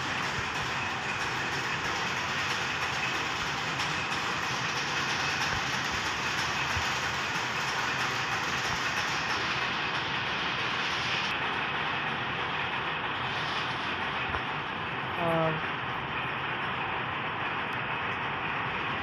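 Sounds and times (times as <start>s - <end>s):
textile machinery clattering: 0.0s - 19.0s.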